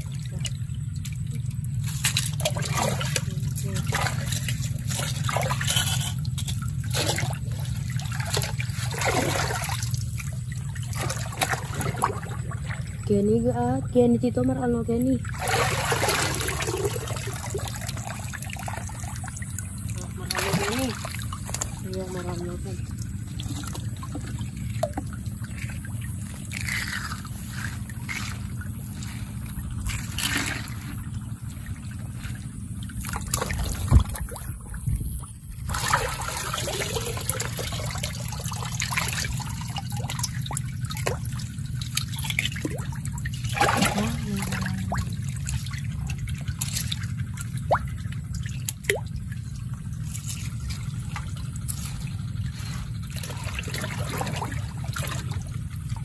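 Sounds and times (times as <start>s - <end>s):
shallow water splashing and trickling: 0.0s - 56.0s
steady low rumble: 0.0s - 56.0s.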